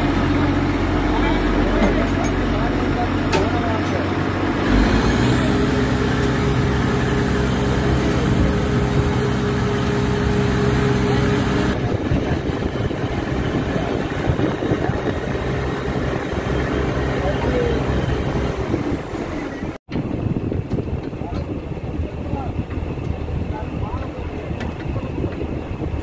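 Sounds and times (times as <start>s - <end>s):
boat engine humming: 0.0s - 26.0s
churning wake water: 0.0s - 26.0s.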